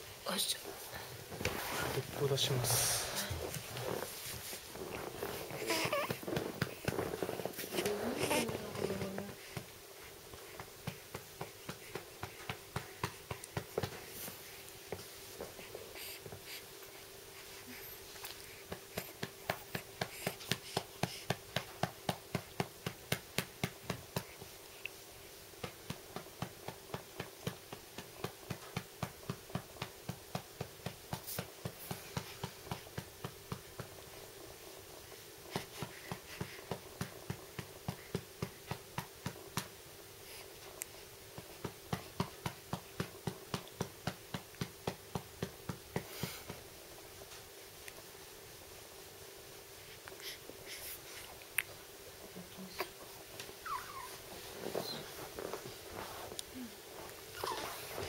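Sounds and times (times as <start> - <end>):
faint steady hum: 0.0 - 58.0
patting on baby's back: 0.7 - 25.0, 25.6 - 34.2, 35.4 - 46.7, 49.9 - 58.0.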